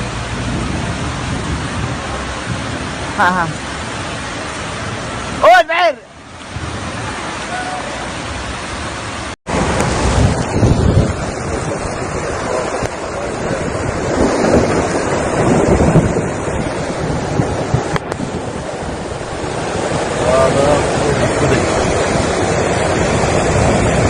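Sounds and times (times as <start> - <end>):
floodwater rushing: 0.0 - 24.0
wind buffeting microphone: 0.0 - 24.0.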